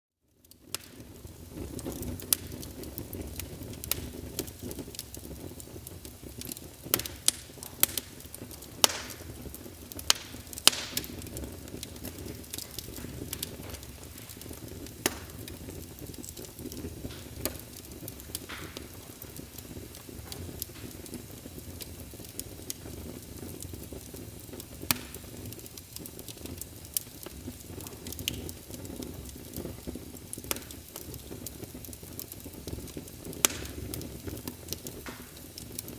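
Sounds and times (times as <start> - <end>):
wood fire crackling and popping: 0.2 - 35.9.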